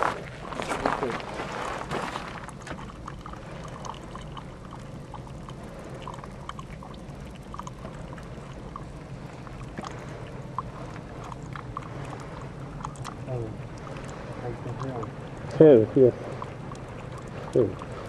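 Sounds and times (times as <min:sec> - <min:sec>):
molten sulphur dripping: 0:00.0 - 0:18.0
steady low rumble: 0:00.0 - 0:18.0.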